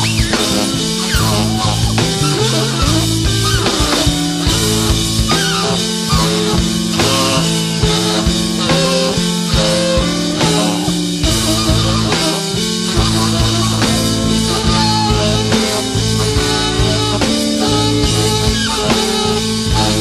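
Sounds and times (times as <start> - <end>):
bass guitar: 0.0 - 20.0
drum kit: 0.0 - 20.0
electric guitar bending notes: 0.0 - 20.0.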